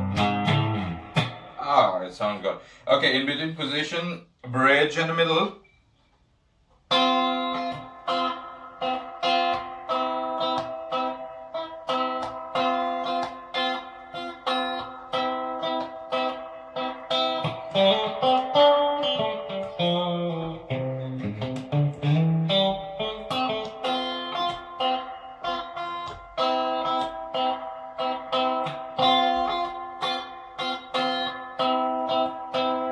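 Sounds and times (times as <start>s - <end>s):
guitar single-note run with bends: 0.0s - 1.6s, 6.9s - 32.9s
electric guitar picked chords: 0.0s - 1.8s, 6.9s - 32.9s.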